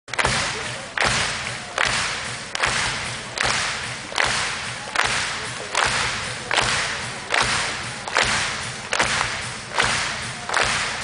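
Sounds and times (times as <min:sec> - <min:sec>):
audience clapping in unison: 0:00.1 - 0:11.0.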